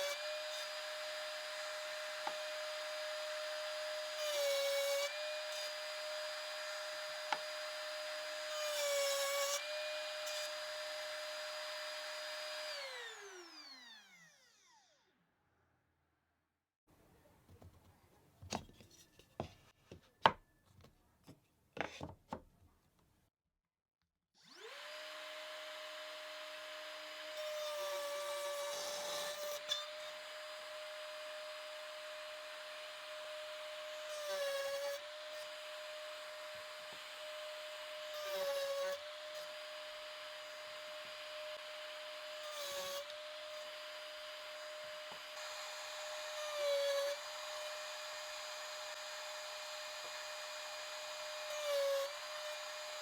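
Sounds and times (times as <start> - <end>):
router bit cutting wood: 0.0 - 15.1, 24.4 - 53.0
router motor whine: 0.0 - 15.2, 24.4 - 53.0.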